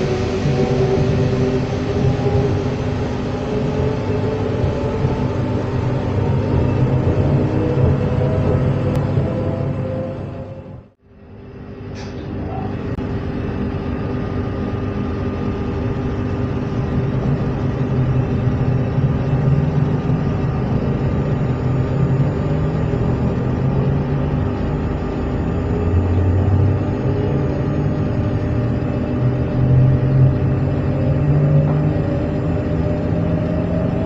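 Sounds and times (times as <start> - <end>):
electric train humming: 0.0 - 34.0.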